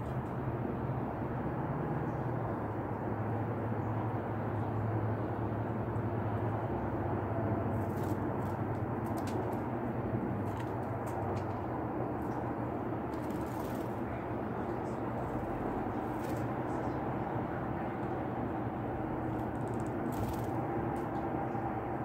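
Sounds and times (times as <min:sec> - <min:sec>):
low outdoor hum: 0:00.0 - 0:22.0.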